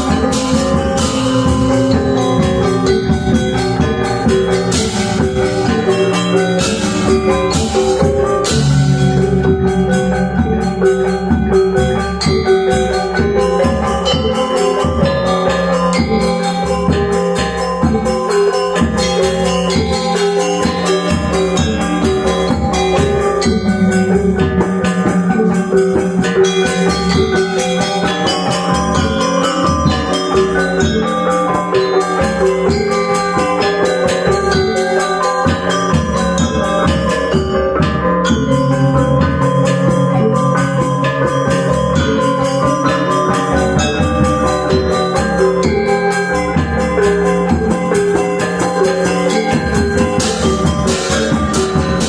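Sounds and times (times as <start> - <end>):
gamelan ensemble playing: 0.0 - 52.0.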